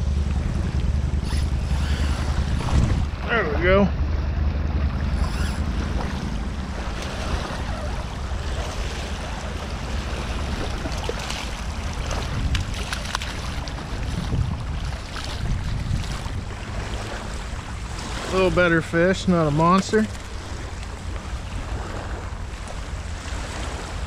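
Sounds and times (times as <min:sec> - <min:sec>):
rushing water: 0:00.0 - 0:24.0
wind buffeting microphone: 0:00.0 - 0:24.0.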